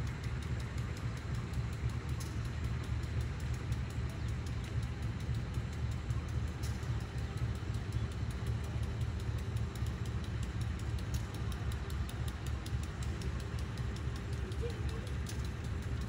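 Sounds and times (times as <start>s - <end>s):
light clicks: 0.0s - 16.0s.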